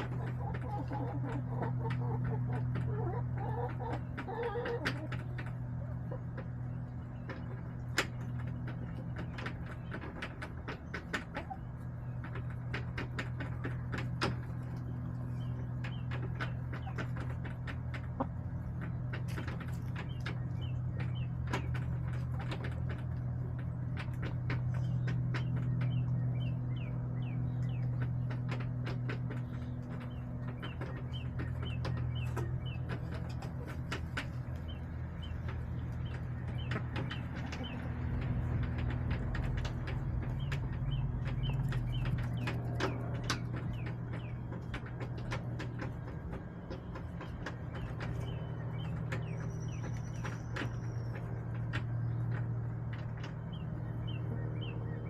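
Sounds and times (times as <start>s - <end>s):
chickens pecking and scratching: 0.0s - 55.0s
hens clucking softly: 0.0s - 55.0s
steady low hum: 0.0s - 55.0s.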